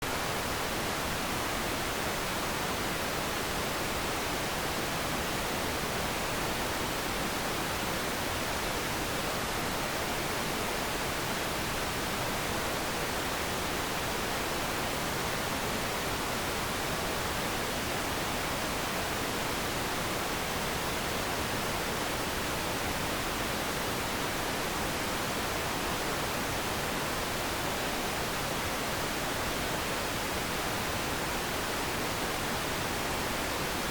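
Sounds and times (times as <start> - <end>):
television static hiss: 0.0 - 33.9.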